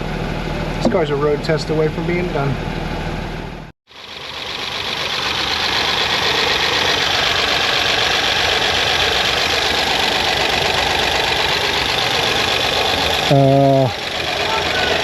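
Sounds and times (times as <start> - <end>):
car engine idling rough with clatter: 0.0 - 15.0.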